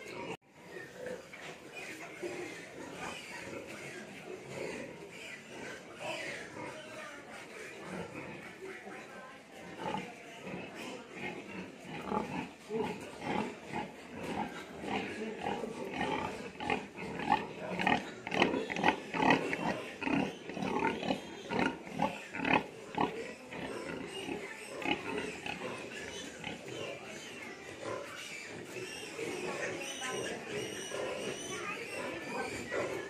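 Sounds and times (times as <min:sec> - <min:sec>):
pigs calling: 0:00.0 - 0:33.0.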